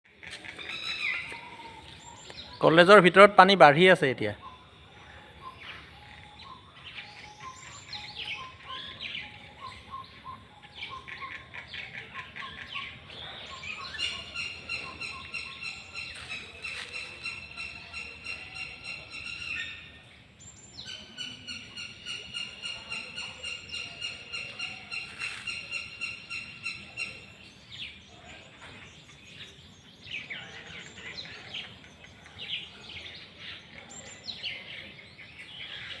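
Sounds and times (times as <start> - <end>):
birds chirping and calling: 0.1 - 36.0.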